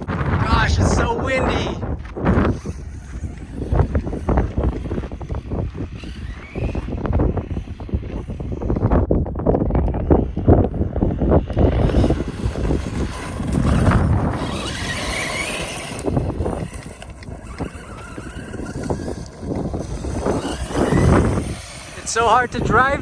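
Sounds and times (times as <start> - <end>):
rc truck motor whine: 0.0 - 23.0
wind buffeting microphone: 0.0 - 23.0.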